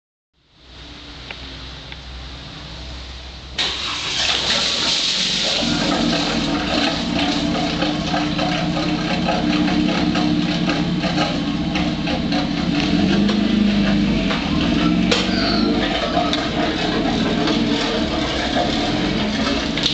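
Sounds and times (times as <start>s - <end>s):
car engine running: 3.6s - 19.9s
engine cranking with hiss: 3.6s - 19.9s.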